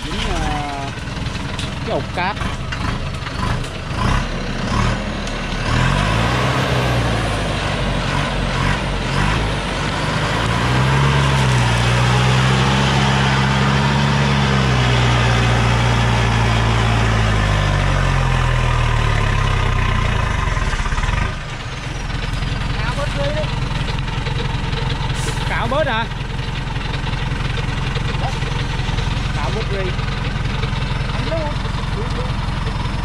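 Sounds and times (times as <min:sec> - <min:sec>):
truck diesel engine under load: 0:00.0 - 0:33.0.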